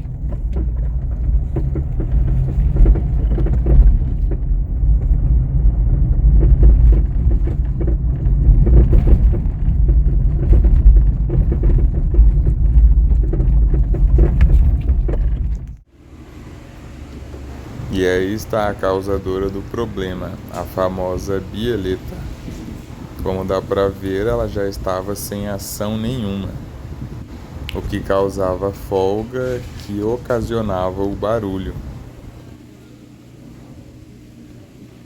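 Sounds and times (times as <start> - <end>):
suspension knocks and clunks: 0.0 - 15.9, 17.2 - 32.4
road and tyre rumble: 0.0 - 32.8.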